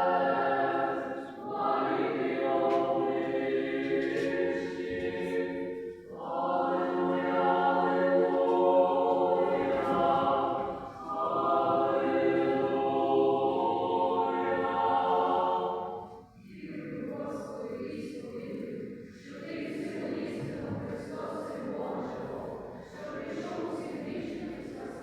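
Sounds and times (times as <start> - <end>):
choir singing chant a cappella: 0.0 - 25.0.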